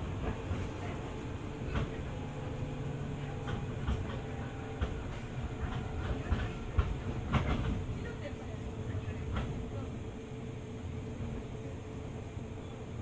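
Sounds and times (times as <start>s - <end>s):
train interior rumble: 0.0s - 13.0s.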